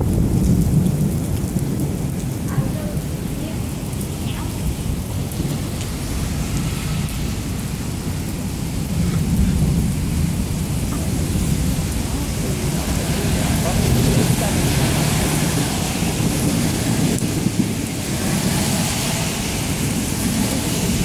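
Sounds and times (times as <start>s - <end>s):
heavy rain falling: 0.0s - 21.0s
low rumble of thunder: 0.0s - 21.0s.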